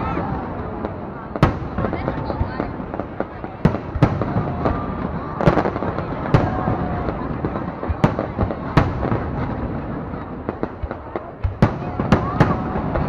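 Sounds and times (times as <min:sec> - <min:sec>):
firework bangs: 0:00.0 - 0:13.0
fireworks crackling and rumbling: 0:00.0 - 0:13.0.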